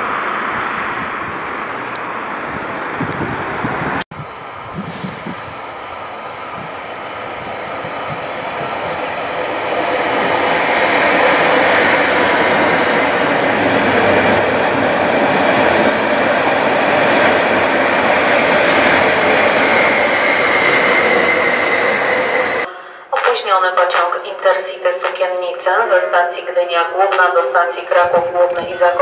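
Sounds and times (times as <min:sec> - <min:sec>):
train rolling past: 0:00.0 - 0:23.3
high train whine: 0:00.0 - 0:23.7.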